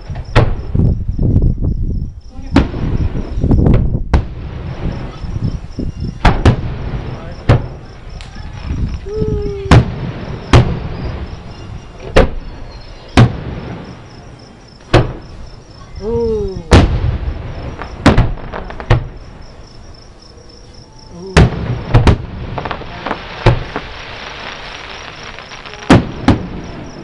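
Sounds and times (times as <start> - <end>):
distant firework booms: 0.0 - 15.8, 16.5 - 20.1, 21.2 - 27.0
crickets chirping: 0.0 - 27.0.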